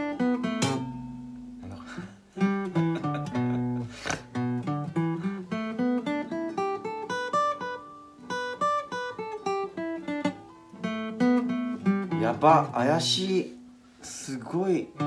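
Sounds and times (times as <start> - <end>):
acoustic guitar picked melody: 0.0 - 15.0.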